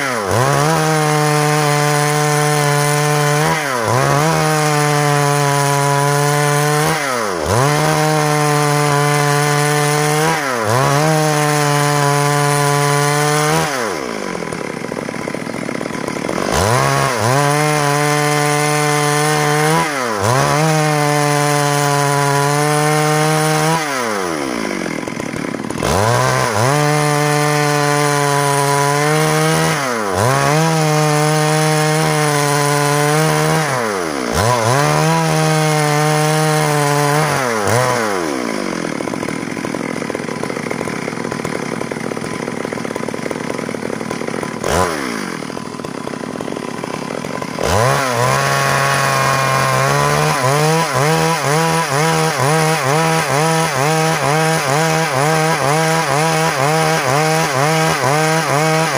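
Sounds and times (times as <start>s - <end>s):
chainsaw cutting through log: 0.0s - 58.9s.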